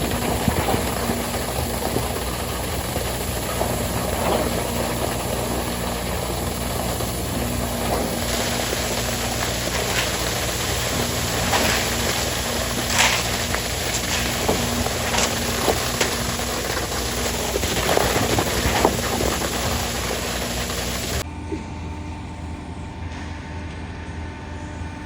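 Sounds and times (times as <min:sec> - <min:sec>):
construction machine engine running: 0:00.0 - 0:21.2.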